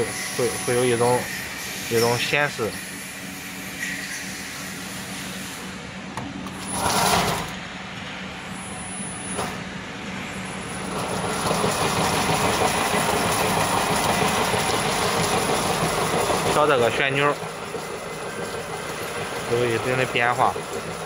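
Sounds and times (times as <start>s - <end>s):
braiding machine rattling and whirring: 0.0s - 21.0s.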